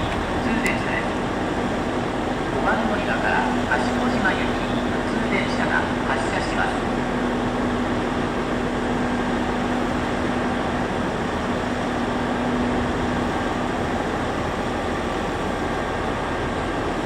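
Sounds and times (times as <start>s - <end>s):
train machinery noise: 0.0s - 17.0s.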